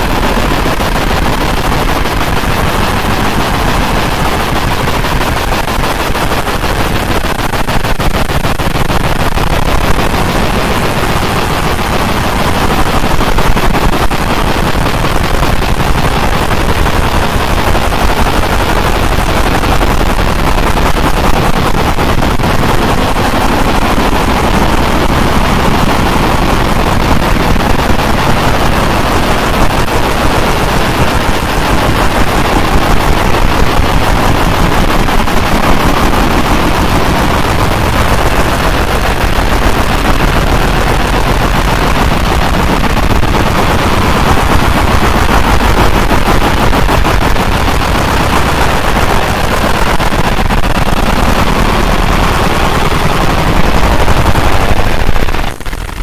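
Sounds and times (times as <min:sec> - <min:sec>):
laser engraving crackling: 0:00.0 - 0:56.0.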